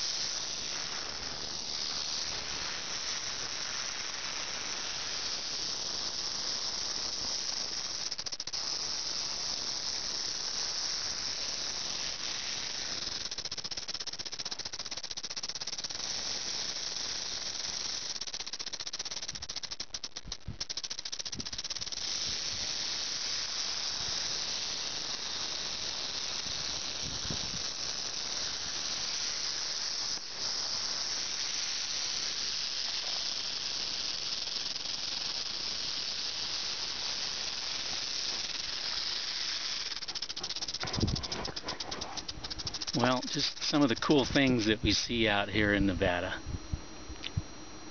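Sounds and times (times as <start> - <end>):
rattlesnake rattling buzz: 0.0 - 47.9.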